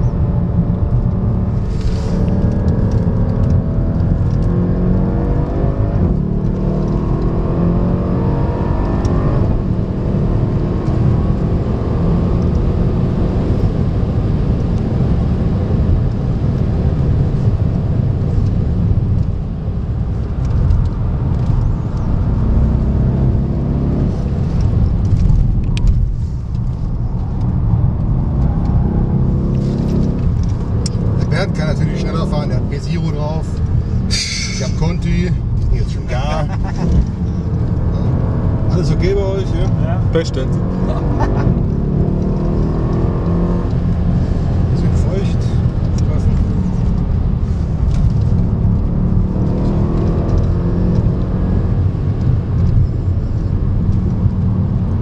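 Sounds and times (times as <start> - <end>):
car engine accelerating: 0.0 - 55.0
road noise: 0.0 - 55.0.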